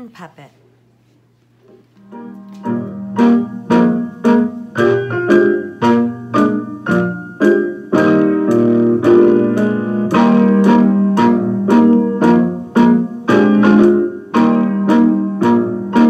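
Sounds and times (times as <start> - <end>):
piano music: 2.0 - 16.0.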